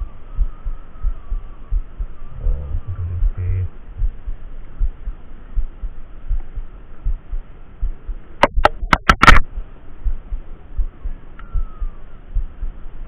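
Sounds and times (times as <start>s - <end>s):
low irregular thumping: 0.4s - 12.8s.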